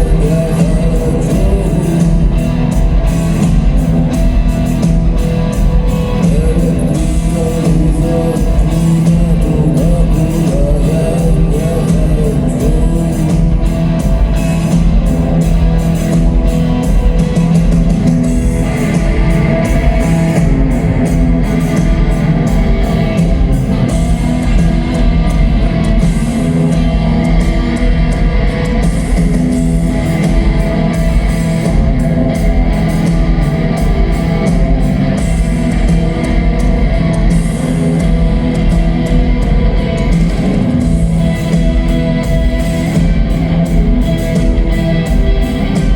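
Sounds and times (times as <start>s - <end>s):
bass line: 0.0s - 45.9s
drum beat: 0.0s - 45.9s
electric guitars: 0.0s - 45.9s.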